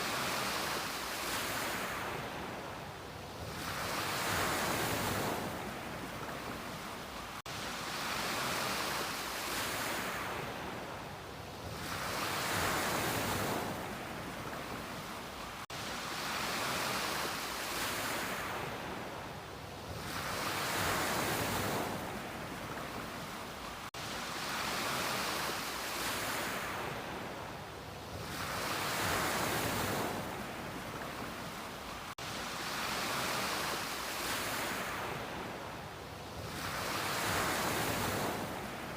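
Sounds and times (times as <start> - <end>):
ocean waves washing onto beach: 0.0 - 38.9.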